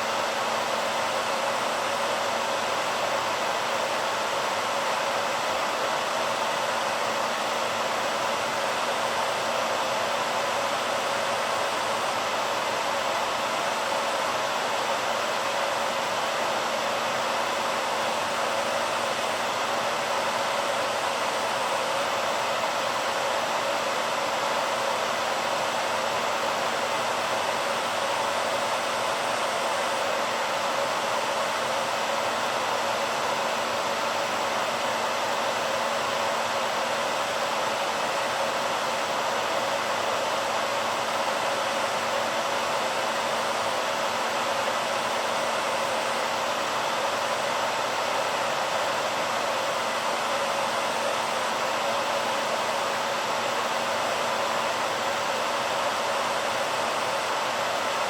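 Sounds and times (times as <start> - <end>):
hairdryer blowing air: 0.0 - 58.0.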